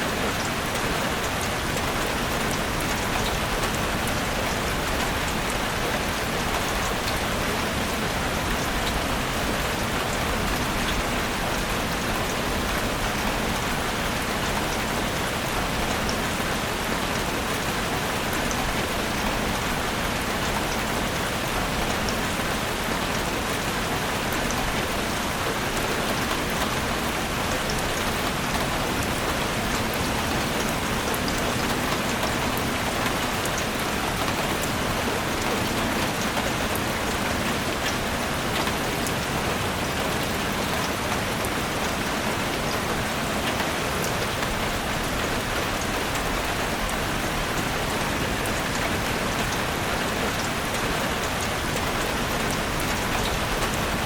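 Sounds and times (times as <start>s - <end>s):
rain falling in forest: 0.0s - 54.0s.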